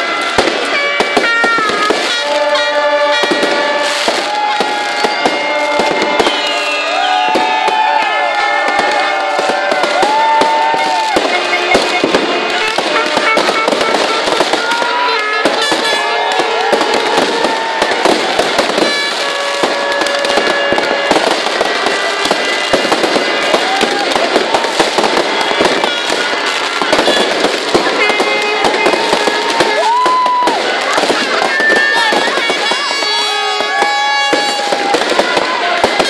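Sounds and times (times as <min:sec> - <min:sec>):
fireworks crackling and banging: 0:00.0 - 0:36.0
voices: 0:00.0 - 0:36.0.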